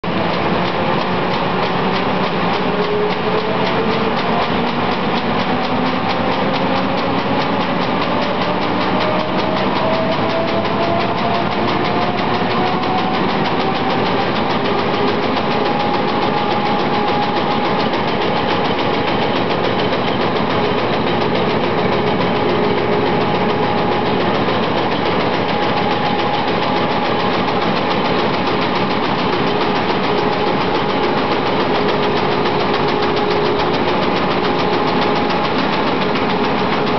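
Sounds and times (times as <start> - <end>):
printing press clatter: 0.0 - 36.9.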